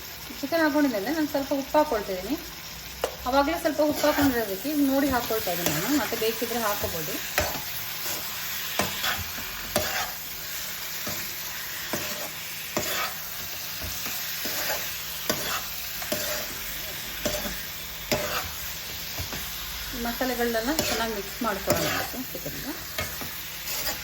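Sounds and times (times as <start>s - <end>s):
chicken sizzling in oil: 0.0s - 24.0s
spatula scraping and knocking pan: 3.8s - 19.6s, 20.2s - 24.0s.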